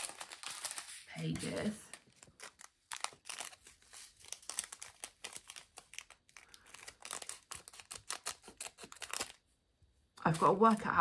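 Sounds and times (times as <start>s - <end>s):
plastic bags crinkling: 0.0s - 9.4s.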